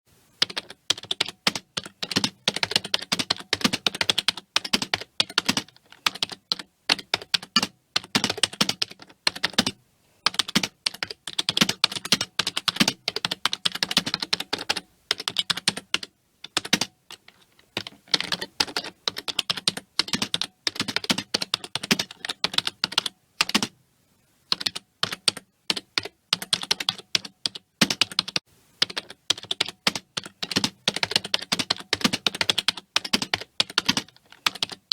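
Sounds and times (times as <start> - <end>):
fast typing on keyboard: 0.4 - 23.7, 24.5 - 34.9.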